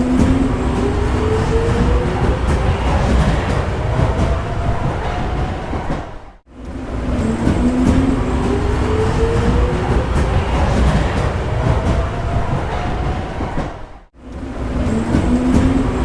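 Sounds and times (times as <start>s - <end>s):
train wheels rumbling on track: 0.0s - 13.8s, 14.4s - 16.0s.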